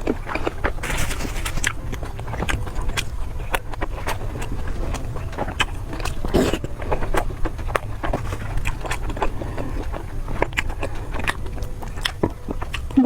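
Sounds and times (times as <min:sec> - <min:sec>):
crunchy bites and chewing: 0:00.0 - 0:13.0
low hum: 0:00.0 - 0:13.0.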